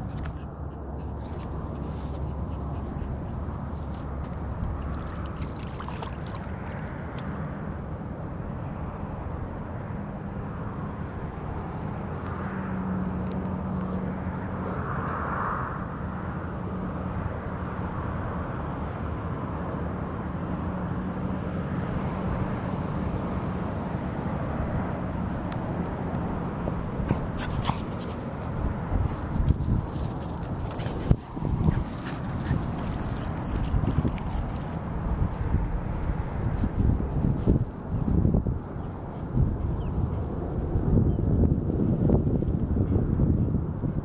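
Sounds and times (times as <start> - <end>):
distant engine drone: 0.0 - 44.0.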